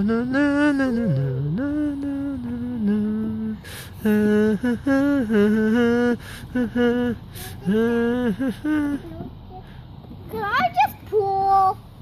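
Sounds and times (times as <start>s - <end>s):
person humming a melody: 0.0s - 9.6s.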